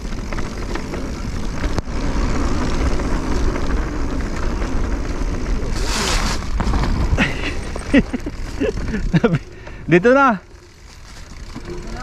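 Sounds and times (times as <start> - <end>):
bike rumbling and rattling: 0.0 - 12.0.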